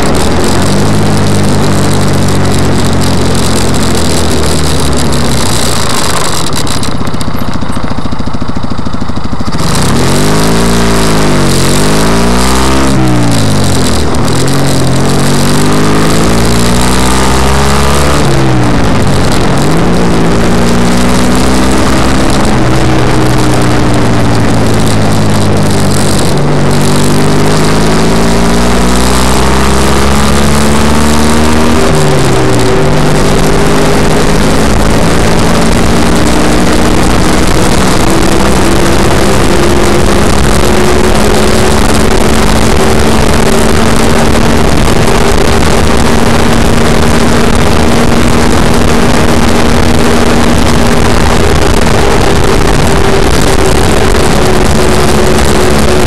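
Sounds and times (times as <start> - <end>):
buggy engine accelerating: 0.0 - 56.0
road noise: 0.0 - 56.0.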